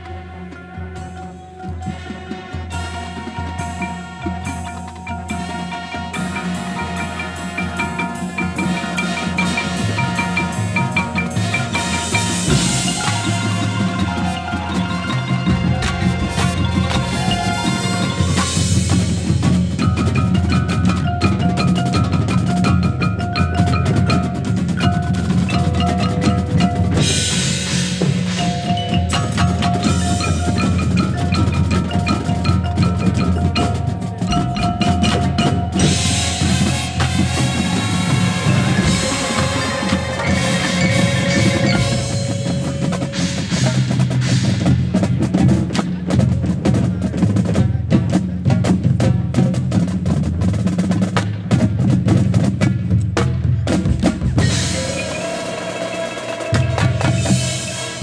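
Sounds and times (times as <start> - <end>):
drums: 0.0 - 58.0
mallet keyboards: 0.0 - 58.0
marching band playing: 0.0 - 58.0.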